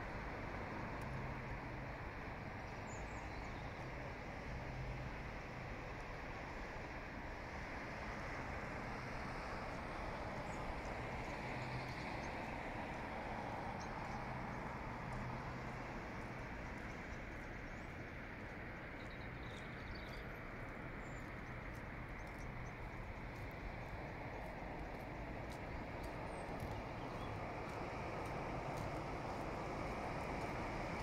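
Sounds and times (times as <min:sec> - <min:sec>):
distant traffic hum: 0:00.0 - 0:31.0.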